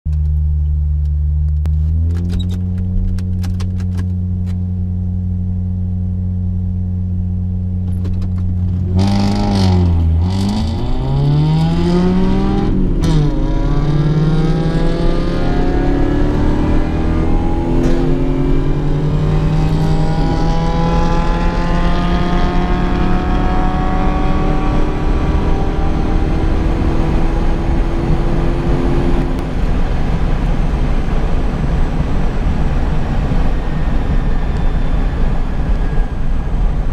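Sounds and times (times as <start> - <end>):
car engine accelerating: 0.1 - 36.9.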